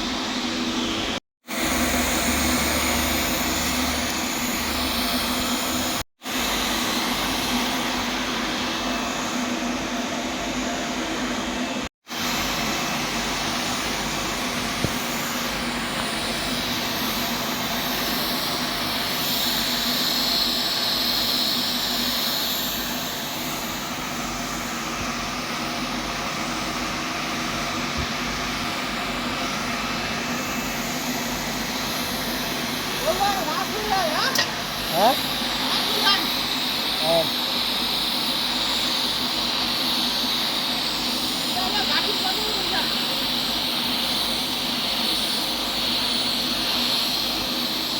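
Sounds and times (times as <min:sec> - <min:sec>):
welding hiss with low hum: 0:00.0 - 0:47.9.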